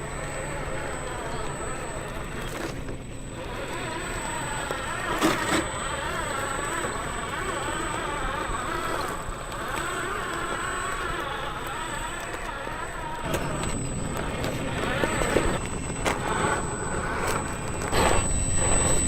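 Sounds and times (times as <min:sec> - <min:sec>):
toy truck electric motor whining: 0:00.0 - 0:19.0.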